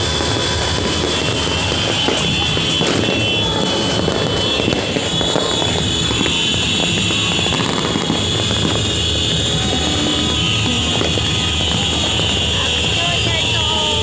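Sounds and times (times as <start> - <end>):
distant fireworks crackling: 0.0 - 14.0.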